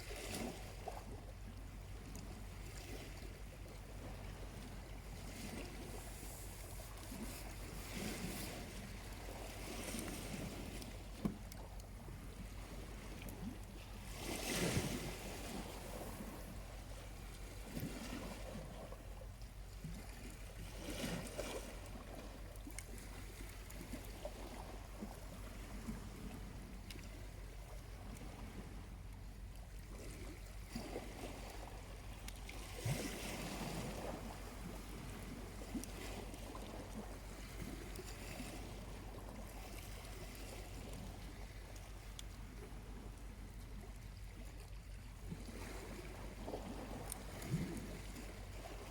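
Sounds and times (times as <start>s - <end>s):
small waves lapping on shore: 0.0s - 48.9s.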